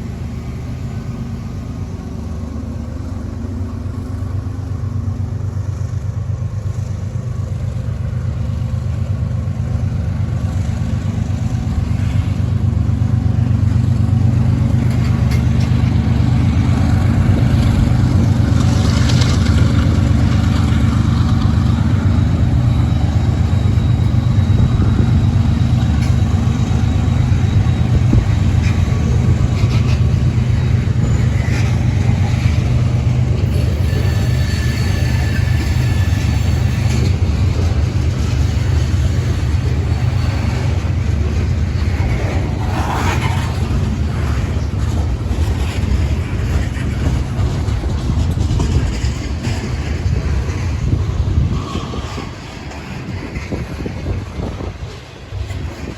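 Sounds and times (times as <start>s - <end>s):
diesel locomotive engine rumble: 0.0s - 55.9s.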